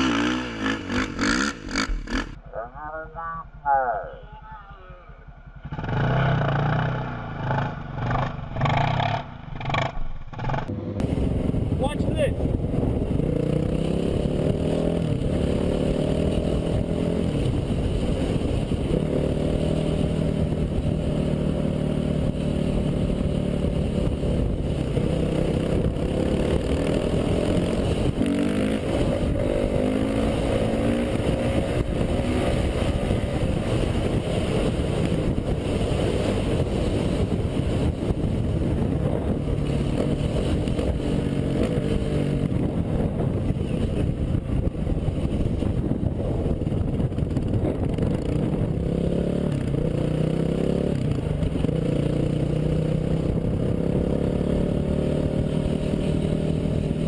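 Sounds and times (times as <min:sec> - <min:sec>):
dirt bike engine revving: 0:00.0 - 0:02.4, 0:05.4 - 0:45.3, 0:47.4 - 0:57.0.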